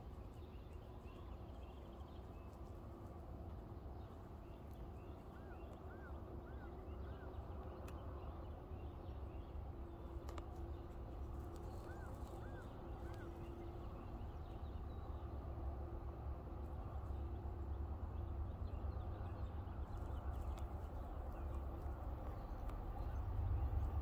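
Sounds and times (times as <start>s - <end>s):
faint low rumble and hum: 0.0s - 24.0s.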